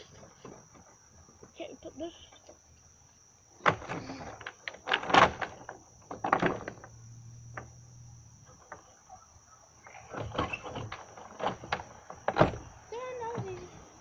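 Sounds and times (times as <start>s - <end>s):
swing chains rattling: 0.0s - 2.6s, 3.6s - 13.6s.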